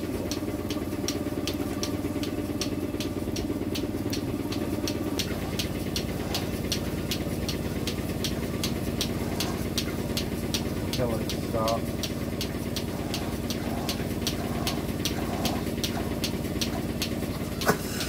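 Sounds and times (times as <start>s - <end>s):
pulsator clicking: 0.0s - 18.0s
vacuum pump humming: 0.0s - 18.0s.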